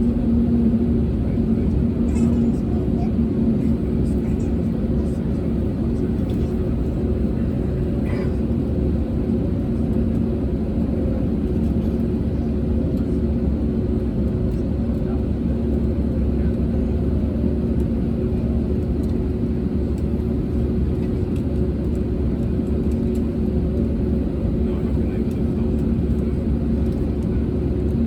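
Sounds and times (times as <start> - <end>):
aircraft cabin drone: 0.0 - 28.0.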